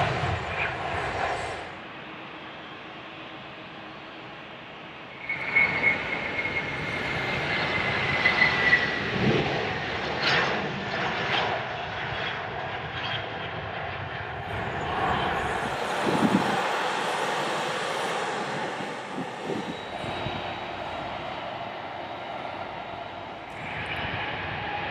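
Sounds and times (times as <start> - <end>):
jet engines spooling up: 0.0 - 10.6, 13.0 - 24.9.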